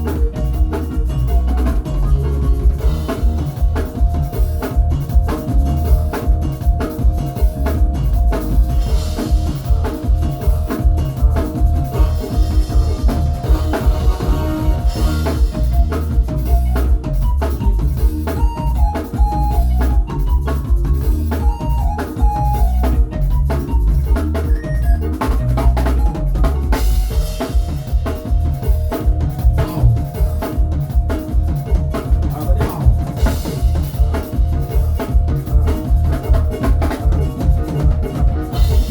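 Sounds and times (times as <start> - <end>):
deep bass: 0.0 - 38.9
drum kit groove: 0.0 - 38.9
held melody: 0.0 - 38.9.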